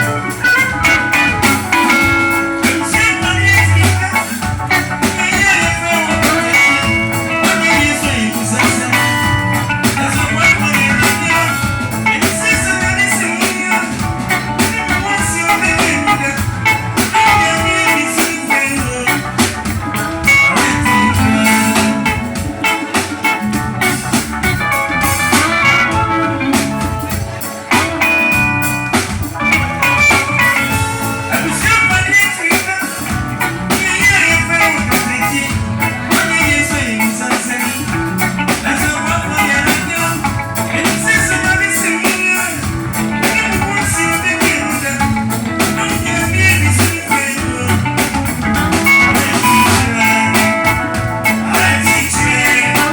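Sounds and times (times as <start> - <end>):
drums: 0.0 - 52.9
plucked guitar: 0.0 - 52.9.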